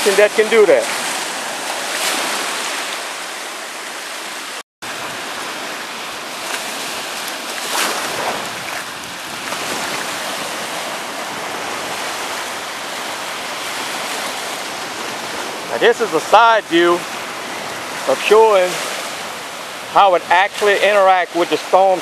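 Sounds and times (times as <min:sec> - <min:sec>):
surf rushing: 0:00.0 - 0:22.0.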